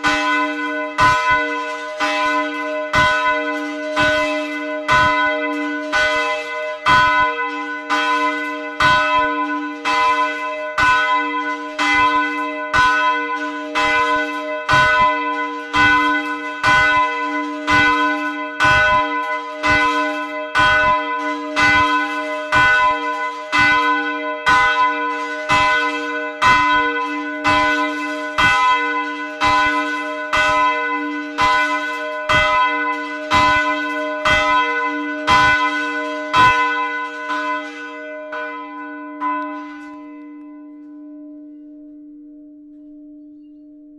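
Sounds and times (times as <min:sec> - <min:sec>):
church bell ringing: 0:00.0 - 0:43.9.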